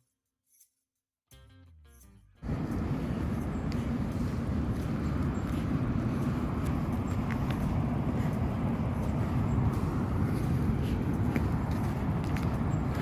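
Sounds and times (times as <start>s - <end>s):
low outdoor rumbling: 2.4s - 13.0s.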